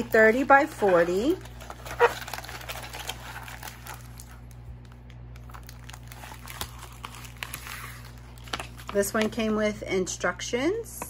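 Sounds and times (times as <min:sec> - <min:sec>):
plastic film crinkling: 0:00.0 - 0:09.8.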